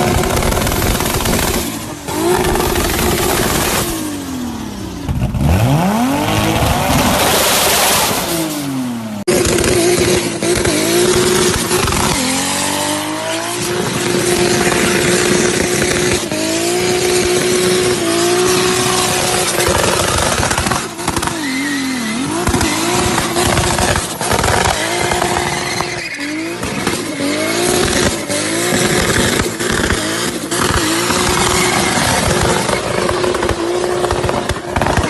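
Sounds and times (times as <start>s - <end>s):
sharp cracks and bangs: 0.0s - 4.3s, 5.0s - 35.0s
car engine revving hard: 0.0s - 35.0s.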